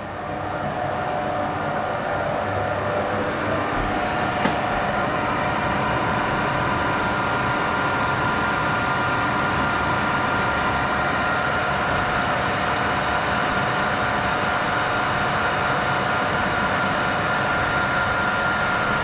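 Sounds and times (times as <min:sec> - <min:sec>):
metal lathe running: 0:00.0 - 0:19.0.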